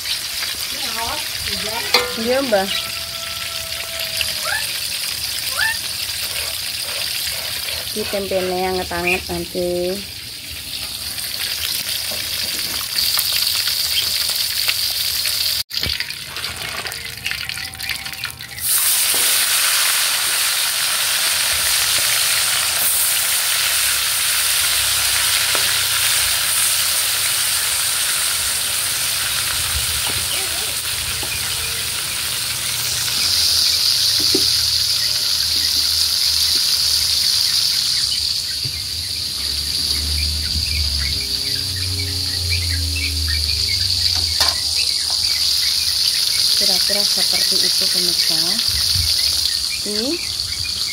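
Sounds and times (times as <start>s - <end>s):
fish sizzling in hot oil: 0.0s - 50.9s.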